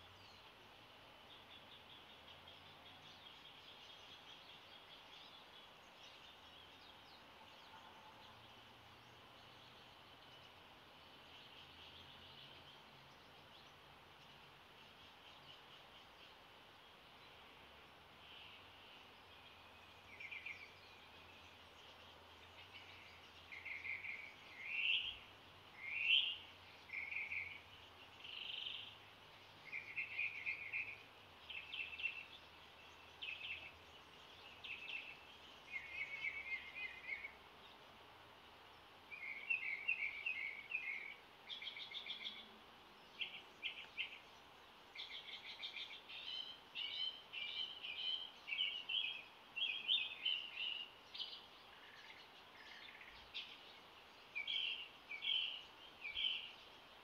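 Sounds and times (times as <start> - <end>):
faint background noise: 0.0 - 57.0
songbirds chirping and trilling: 0.0 - 57.0.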